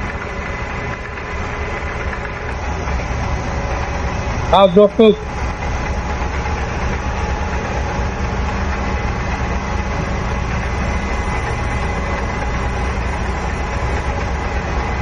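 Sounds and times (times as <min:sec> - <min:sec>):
lathe running with low hum: 0:00.0 - 0:15.0.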